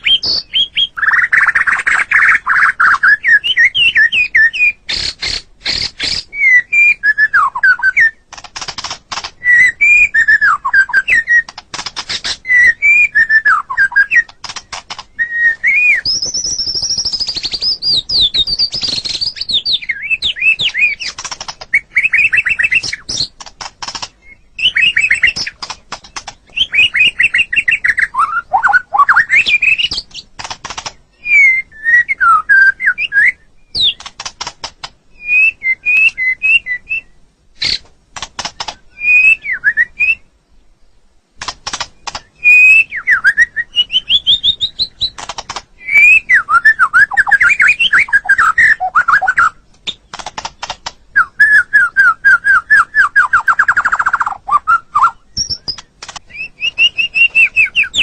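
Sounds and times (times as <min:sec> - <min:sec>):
songbird singing varied song: 0:00.0 - 0:58.0.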